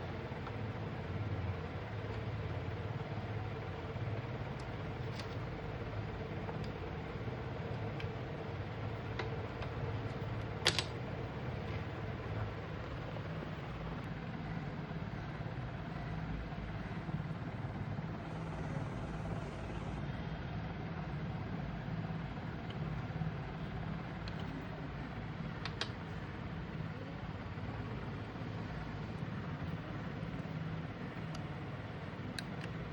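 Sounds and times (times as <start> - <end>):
low room hum: 0.0 - 32.9.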